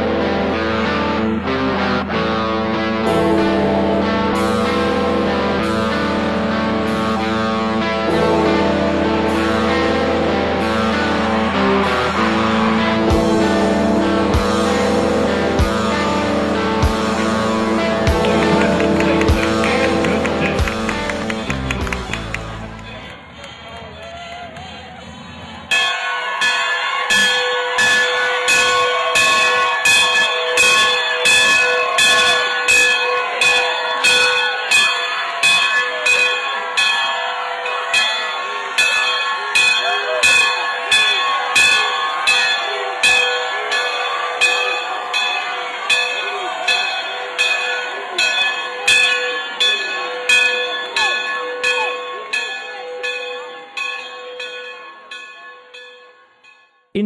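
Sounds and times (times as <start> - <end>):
large bell clanging: 3.0 - 23.1, 25.7 - 56.7.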